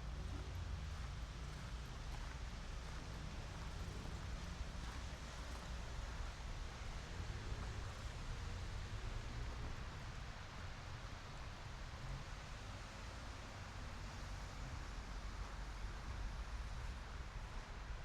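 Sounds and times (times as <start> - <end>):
city ambience low rumble: 0.0 - 18.0.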